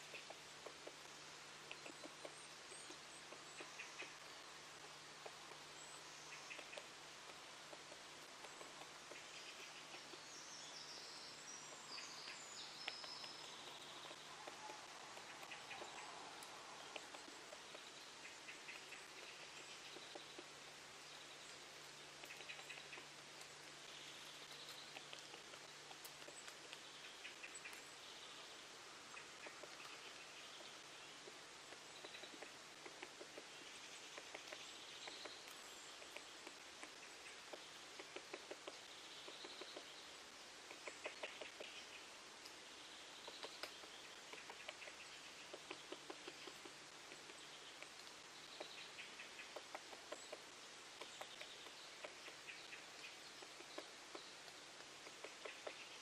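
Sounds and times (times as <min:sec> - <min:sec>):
soft background noise: 0:00.0 - 0:56.0.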